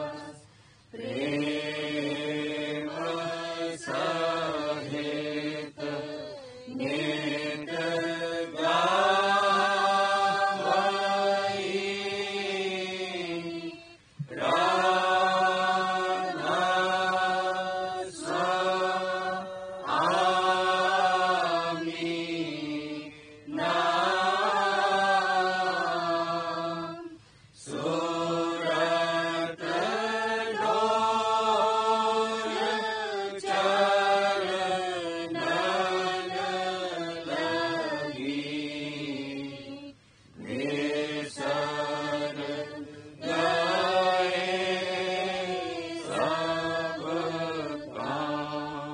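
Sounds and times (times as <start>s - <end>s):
person chanting verses: 0.0s - 48.9s.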